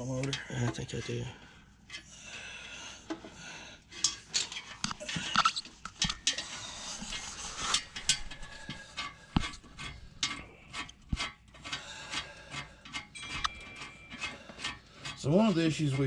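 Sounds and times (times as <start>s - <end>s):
hand tools and metal clinking: 0.0s - 2.2s, 3.0s - 16.0s.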